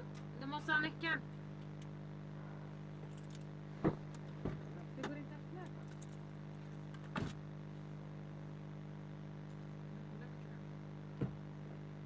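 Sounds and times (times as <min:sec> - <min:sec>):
low hum inside car: 0:00.0 - 0:12.0.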